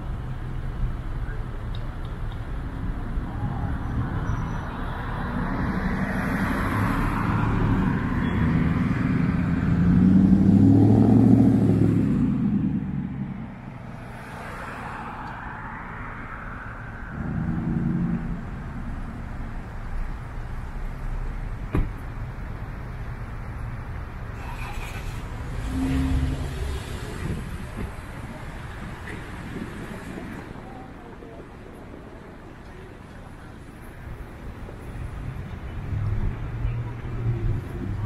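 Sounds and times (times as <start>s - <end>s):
street traffic: 0.0s - 38.0s.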